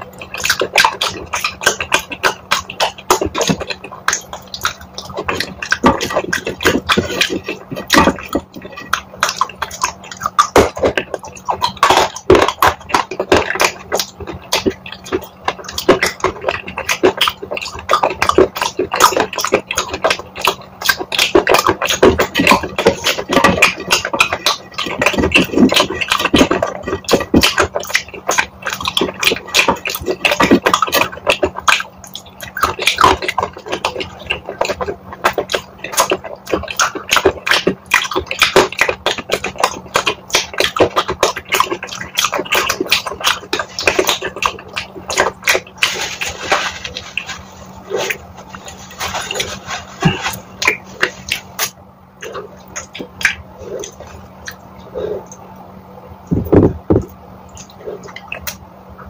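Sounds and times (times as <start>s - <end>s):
sticky mouth clicks and chewing: 0.0s - 59.0s.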